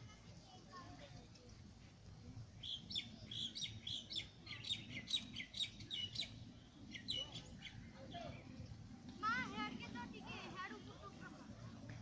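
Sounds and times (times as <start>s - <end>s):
songbird chirping: 0.2s - 11.2s.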